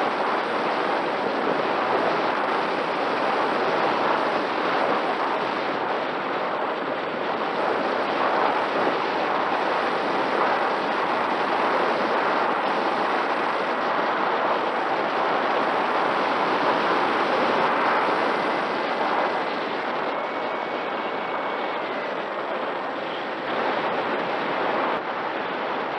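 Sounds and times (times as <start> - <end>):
faint electric motor whine: 0.0 - 25.9
wind noise on microphone: 0.0 - 25.9.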